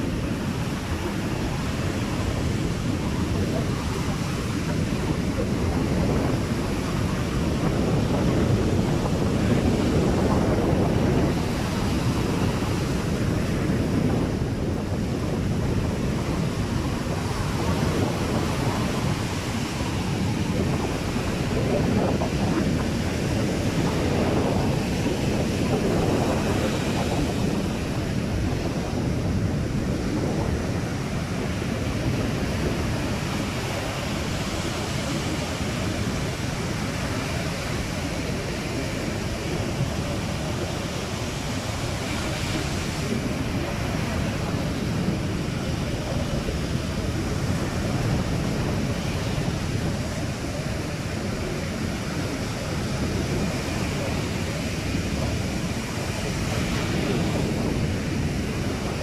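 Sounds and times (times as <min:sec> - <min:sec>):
ocean surf washing onto beach: 0:00.0 - 0:59.0
wind rumbling on microphone: 0:00.0 - 0:59.0.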